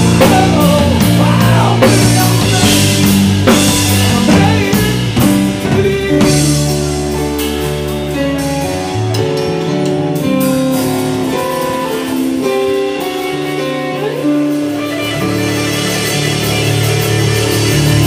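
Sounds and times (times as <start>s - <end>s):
bass guitar: 0.0s - 18.0s
drum kit: 0.0s - 18.0s
electric guitar lead: 0.0s - 18.0s
keyboard: 0.0s - 18.0s.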